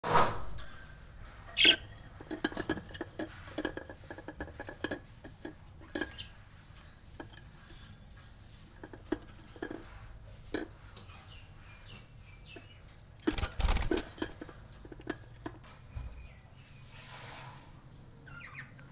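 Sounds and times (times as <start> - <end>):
birds scratching and tapping in cage: 0.2 - 18.6.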